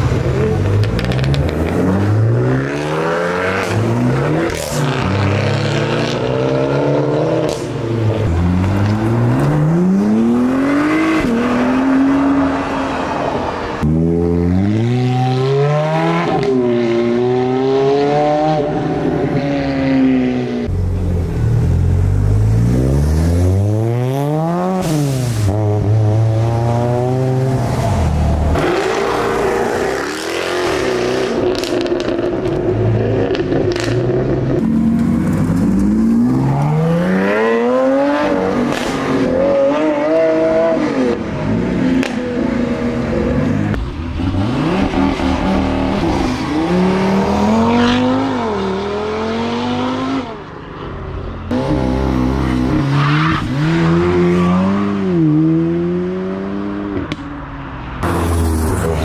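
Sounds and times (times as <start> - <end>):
car engines accelerating hard: 0.0 - 50.6.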